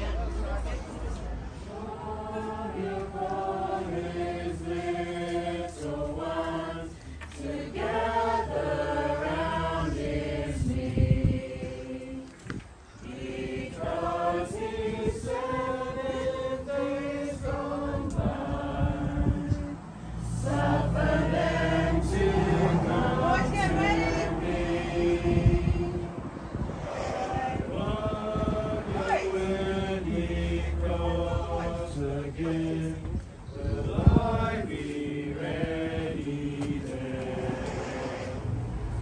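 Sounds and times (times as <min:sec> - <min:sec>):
congregation singing a hymn: 0:00.0 - 0:39.0.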